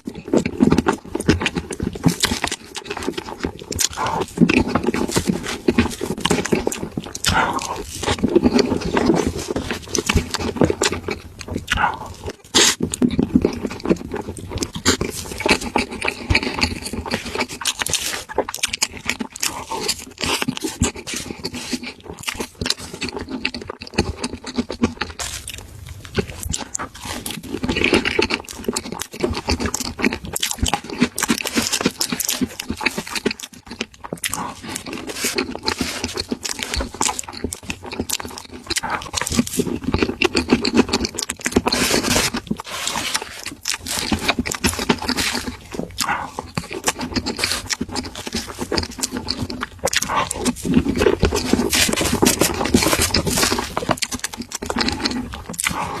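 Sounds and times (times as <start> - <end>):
crunching chews and wet smacks: 0.0 - 56.0.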